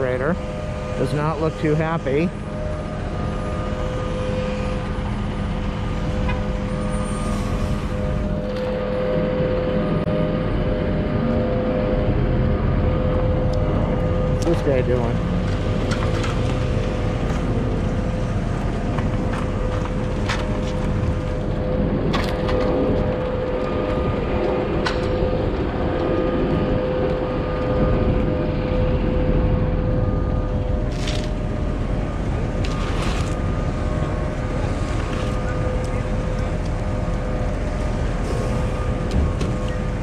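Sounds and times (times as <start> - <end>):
street traffic hum: 0.0 - 40.0.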